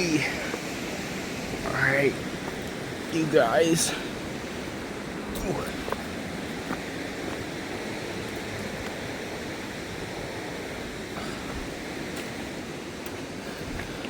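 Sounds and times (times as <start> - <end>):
steady outdoor rushing noise: 0.0 - 14.0.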